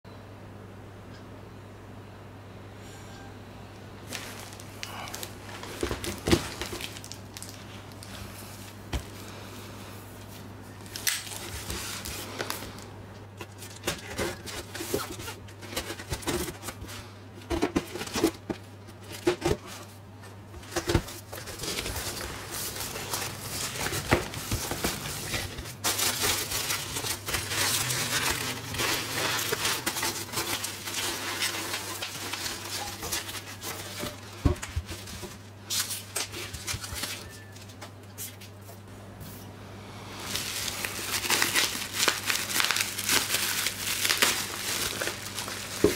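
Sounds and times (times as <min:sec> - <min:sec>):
cardboard rustling and scraping: 0:04.1 - 0:09.3, 0:10.1 - 0:12.8, 0:13.4 - 0:38.6, 0:40.3 - 0:45.9.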